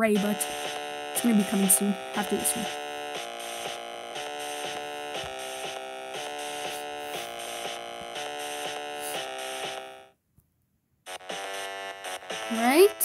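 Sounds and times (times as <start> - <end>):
electronic buzzing drone with beat: 0.0 - 10.1, 11.1 - 13.0.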